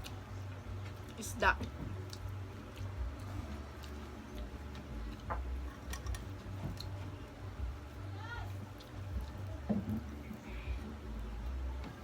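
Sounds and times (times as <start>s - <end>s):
chewing and handling food: 0.0s - 12.0s
steady low hum: 0.0s - 12.0s.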